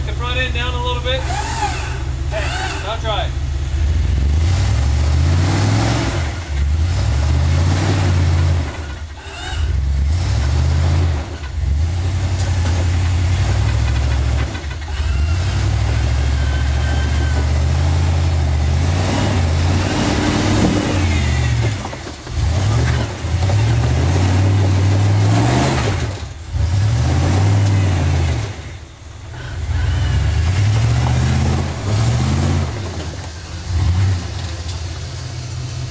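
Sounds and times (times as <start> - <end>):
engine revving under load: 0.0 - 35.9.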